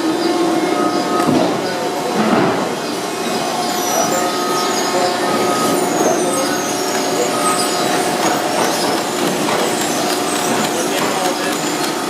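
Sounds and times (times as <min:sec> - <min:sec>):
constant machine whine: 0:00.0 - 0:12.0
industrial machine running: 0:00.0 - 0:12.0.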